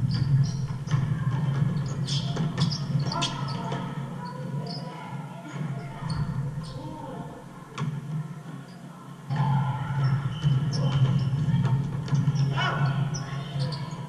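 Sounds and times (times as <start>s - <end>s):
sneakers squeaking: 0.0s - 7.0s, 8.7s - 14.0s
players' voices: 0.0s - 14.0s.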